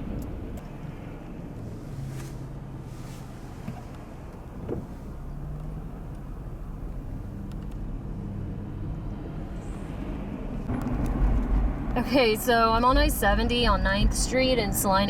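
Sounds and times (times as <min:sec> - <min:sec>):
car engine humming: 0:00.0 - 0:15.0
road rumble: 0:00.0 - 0:15.0.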